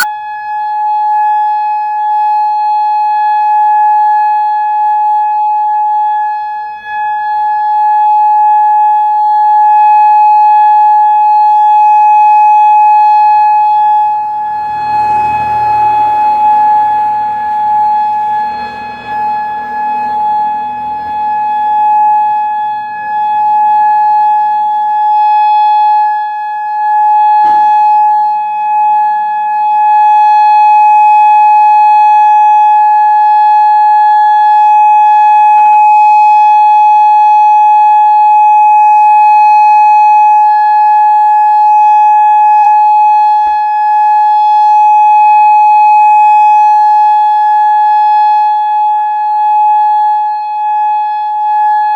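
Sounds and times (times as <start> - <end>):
outdoor warning siren steady tone: 0.0 - 51.9.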